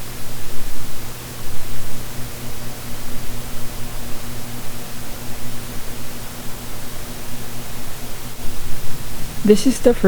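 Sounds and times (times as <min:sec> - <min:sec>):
ceiling fan hum: 0:00.0 - 0:10.0.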